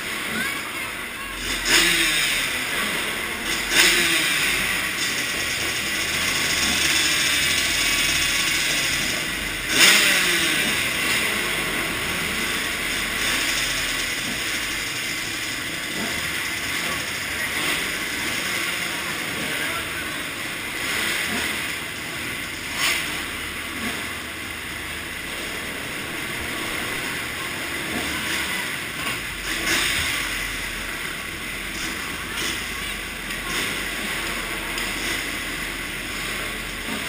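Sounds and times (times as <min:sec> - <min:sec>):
engine throttle blips: 0:00.0 - 0:37.0
motocross bike engines running: 0:00.0 - 0:37.0.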